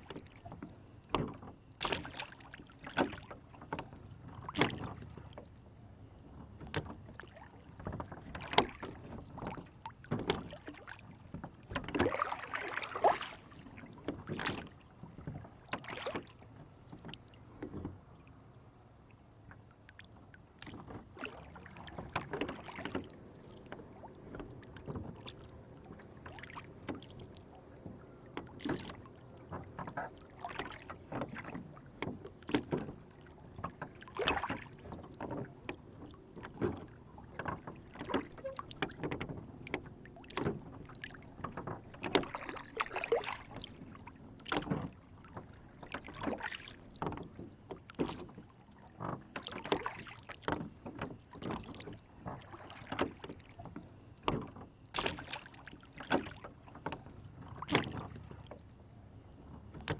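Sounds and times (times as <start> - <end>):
low water wash: 0.0 - 59.9
water slapping against a hull: 0.0 - 59.9.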